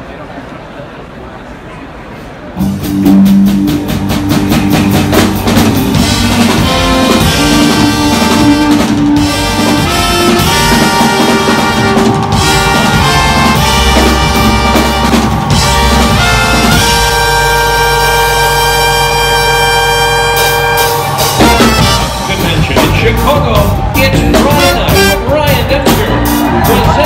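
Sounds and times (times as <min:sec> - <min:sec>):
drum kit beat: 0:02.6 - 0:27.0
live band playing upbeat tune: 0:02.6 - 0:27.0
brass horns: 0:05.1 - 0:27.0.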